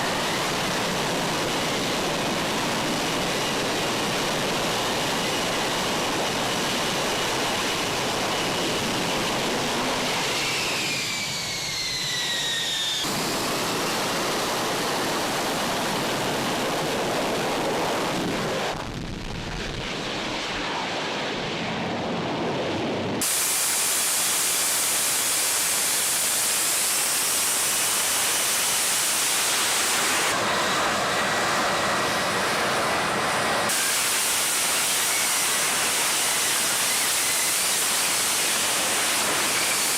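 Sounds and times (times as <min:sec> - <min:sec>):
falling whine: 0:00.0 - 0:39.9
jet engine roar: 0:00.0 - 0:39.9.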